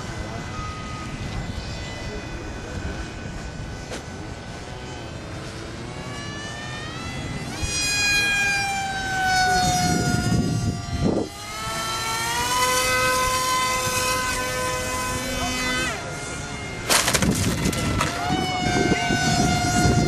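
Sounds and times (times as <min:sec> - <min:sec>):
model airplane motor whining: 0:00.0 - 0:20.0
model jet motor whine: 0:00.0 - 0:20.0.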